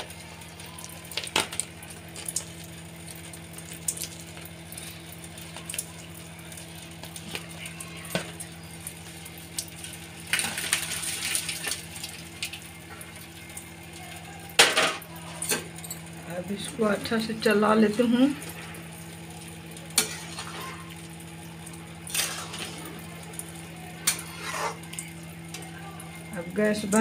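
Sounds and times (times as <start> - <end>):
food splashing into gravy: 0.0 - 15.2, 18.4 - 25.7
gravy simmering with pops: 0.0 - 16.7, 17.4 - 26.6.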